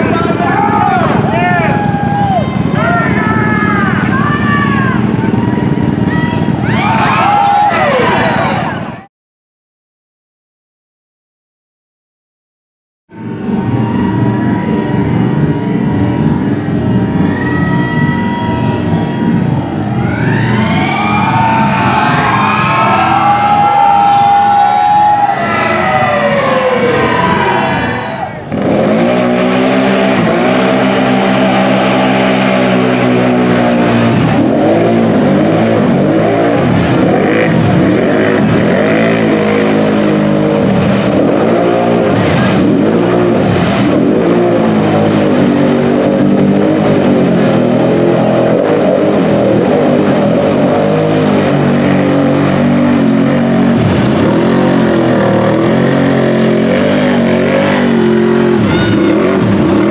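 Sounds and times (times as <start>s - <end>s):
atv engine revving: 0.0s - 8.9s, 13.2s - 59.9s.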